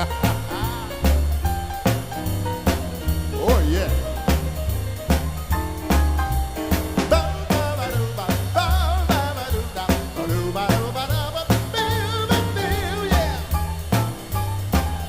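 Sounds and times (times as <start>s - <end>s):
drum kit beat: 0.0s - 15.0s
swing big band playing: 0.0s - 15.0s.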